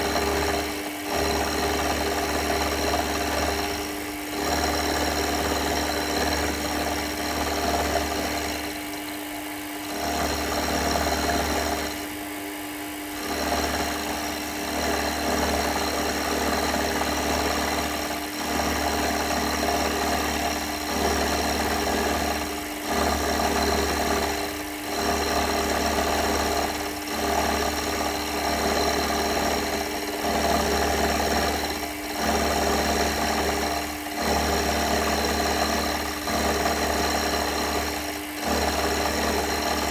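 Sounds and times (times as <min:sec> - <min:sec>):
machine tool humming: 0:00.0 - 0:39.9.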